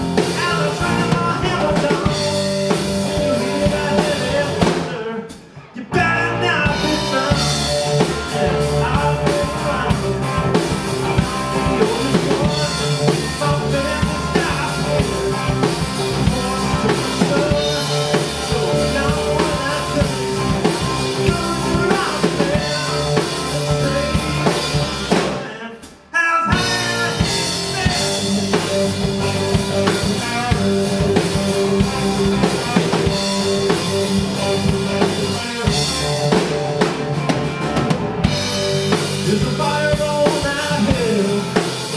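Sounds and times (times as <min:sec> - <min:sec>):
blues-rock band playing: 0:00.0 - 0:25.8, 0:26.4 - 0:41.9.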